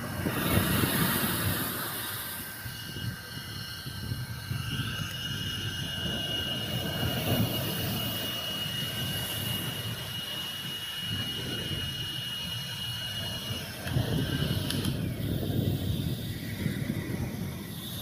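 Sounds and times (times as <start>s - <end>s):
jet engine low rumble: 0.0s - 18.0s
jet engine whine: 0.0s - 18.0s.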